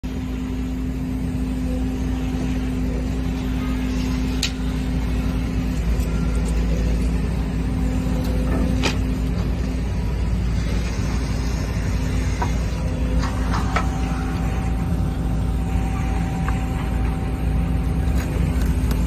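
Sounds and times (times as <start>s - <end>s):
hydraulic machinery drone: 0.0s - 19.0s.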